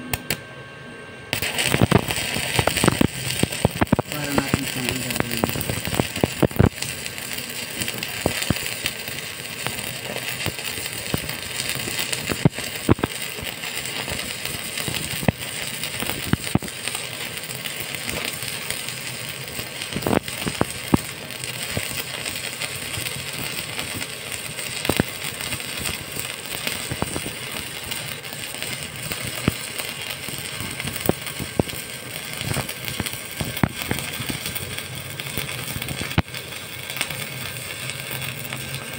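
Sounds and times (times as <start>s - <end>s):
welding arc crackling: 0.0s - 0.4s, 1.3s - 38.9s
sharp welding pops: 0.1s - 0.4s, 1.3s - 38.9s.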